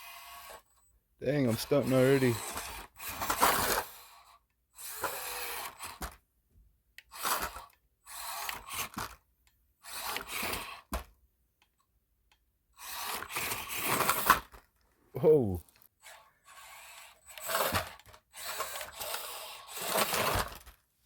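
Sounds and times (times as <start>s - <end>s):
toy car electric motor whirring: 0.0s - 6.2s, 7.0s - 11.1s, 12.7s - 14.7s, 15.8s - 20.8s.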